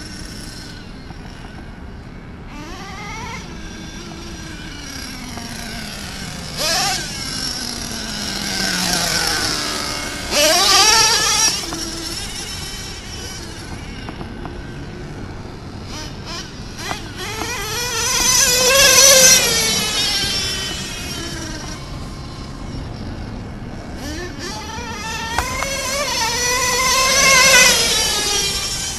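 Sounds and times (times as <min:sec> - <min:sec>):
model truck engine revving: 0:02.5 - 0:28.9.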